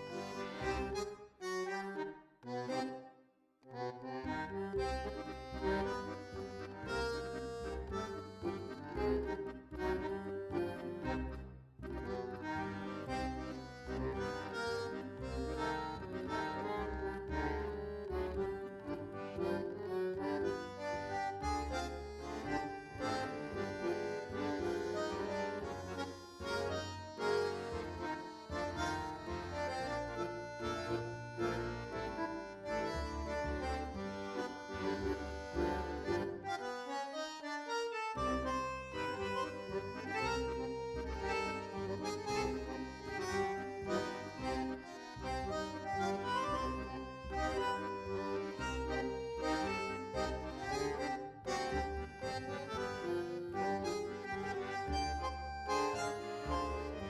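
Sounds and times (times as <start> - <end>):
steady bass line: 0.0 - 1.1, 4.2 - 36.8, 38.1 - 57.0
instrumental tune: 0.0 - 57.0.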